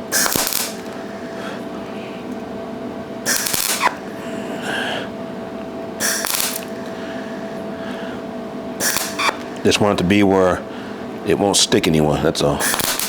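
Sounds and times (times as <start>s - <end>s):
steady hum: 0.0s - 13.0s
welding arc crackling: 0.0s - 13.0s.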